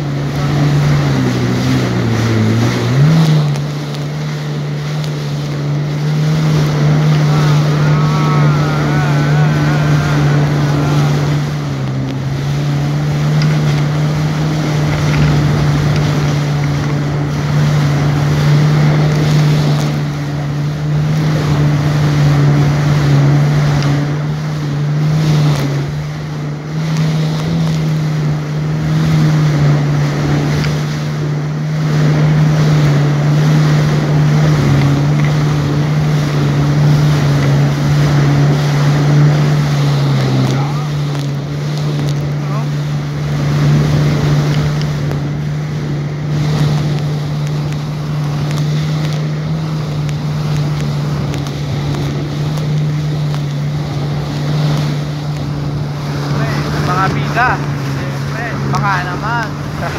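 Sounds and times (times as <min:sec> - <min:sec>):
jet ski engine droning: 0:00.0 - 0:59.9
water hissing off hull: 0:00.0 - 0:59.9
wind on microphone: 0:00.0 - 0:59.9.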